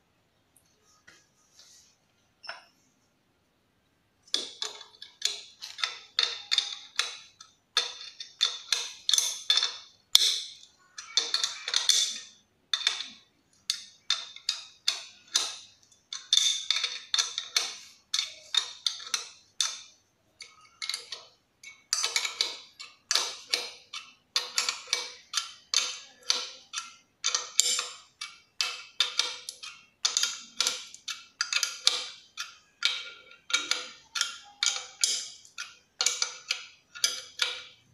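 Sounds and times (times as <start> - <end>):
wrench clinking on metal nuts: 4.3 - 37.9.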